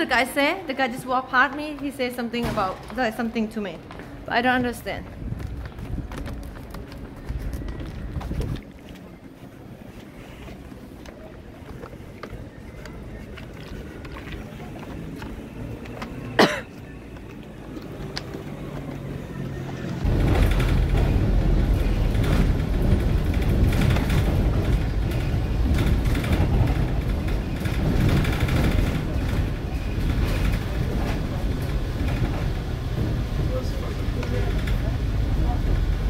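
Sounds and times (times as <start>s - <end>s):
bus engine rumble: 0.0s - 36.0s
city street hum: 0.0s - 36.0s.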